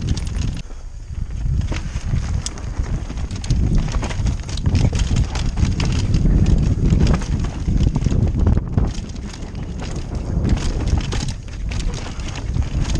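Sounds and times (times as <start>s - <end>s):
tyres crunching over stones: 0.0s - 0.6s, 1.4s - 12.9s
bike clattering: 0.0s - 12.9s
steady low rumble: 0.0s - 12.9s.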